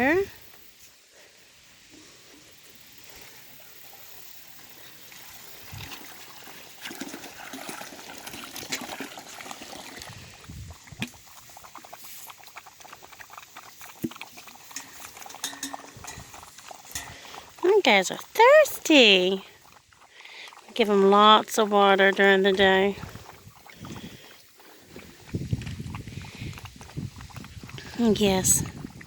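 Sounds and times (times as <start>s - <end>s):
puppies lapping water: 0.0s - 29.0s.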